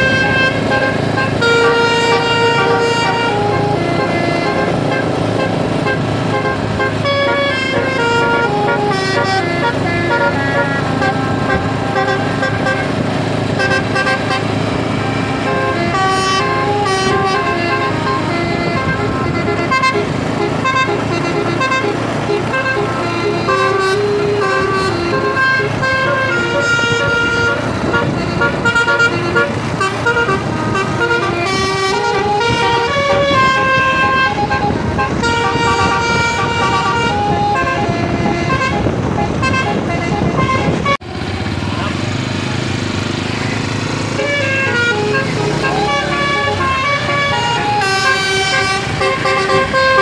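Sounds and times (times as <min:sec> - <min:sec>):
multi-tone air horn melody: 0:00.0 - 0:41.0, 0:44.0 - 0:50.0
bus engine running: 0:00.0 - 0:50.0.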